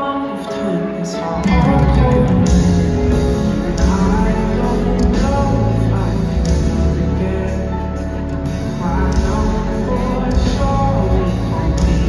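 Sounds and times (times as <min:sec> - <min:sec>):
woman singing amplified pop song: 0:00.0 - 0:07.8, 0:08.8 - 0:12.0
instrumental backing music: 0:00.0 - 0:12.0.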